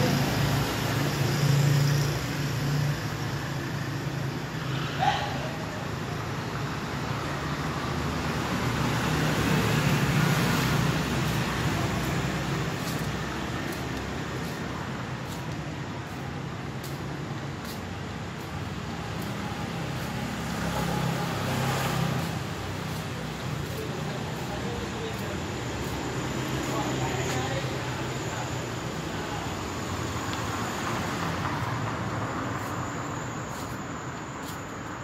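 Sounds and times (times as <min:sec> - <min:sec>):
road and traffic noise: 0:00.0 - 0:35.0
scooters and cars passing: 0:00.0 - 0:35.0.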